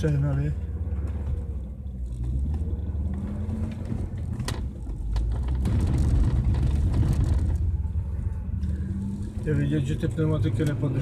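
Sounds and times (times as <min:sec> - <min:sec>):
car engine drone inside cabin: 0:00.0 - 0:11.0.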